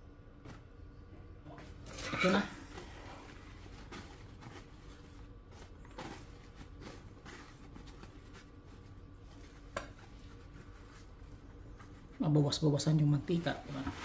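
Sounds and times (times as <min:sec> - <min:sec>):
low steady hum: 0:00.0 - 0:14.0
paper towel rustling and crinkling: 0:01.6 - 0:14.0.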